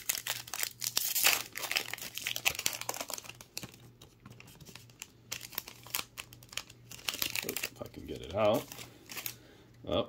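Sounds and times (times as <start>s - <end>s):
wrapper crinkling and tearing: 0.0s - 9.4s.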